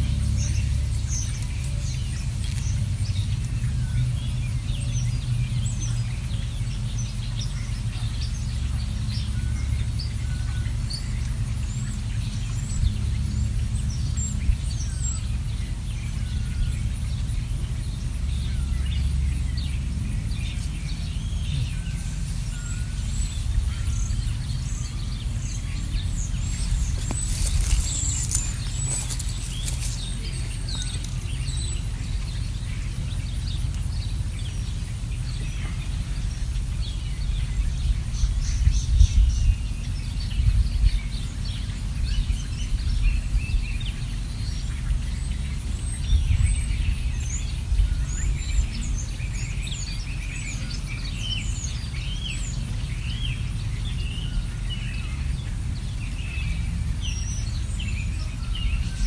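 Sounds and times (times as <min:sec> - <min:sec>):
small birds chirping: 0:00.0 - 0:59.0
steady low rumble: 0:00.0 - 0:59.0.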